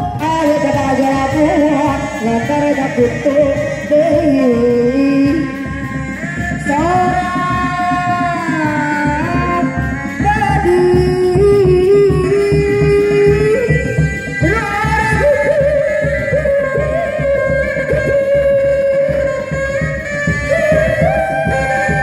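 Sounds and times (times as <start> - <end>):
drums beating steady rhythm: 0.0 - 22.0.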